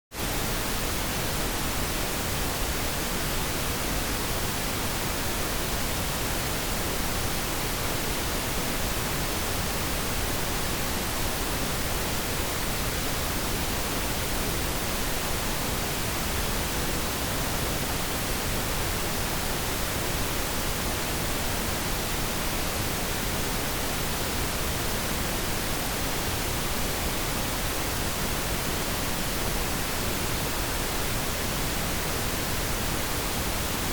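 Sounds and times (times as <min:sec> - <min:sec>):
pink noise hiss: 0:00.1 - 0:33.9.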